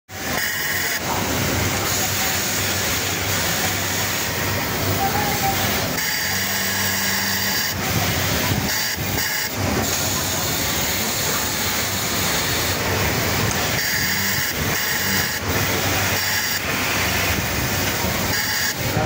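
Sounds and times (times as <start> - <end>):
machine hum and hiss: 0.1 - 19.0
overlock machine stitching: 0.1 - 19.0.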